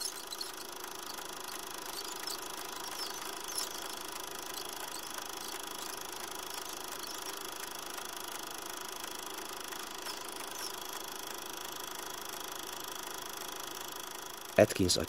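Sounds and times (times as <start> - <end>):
faint even hum: 0.0 - 12.4.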